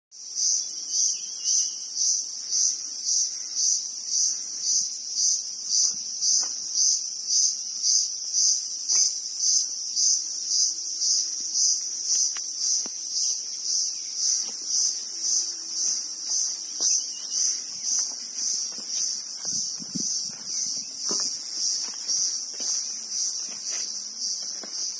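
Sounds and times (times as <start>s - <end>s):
insect chorus shrill buzzing: 0.2s - 24.9s.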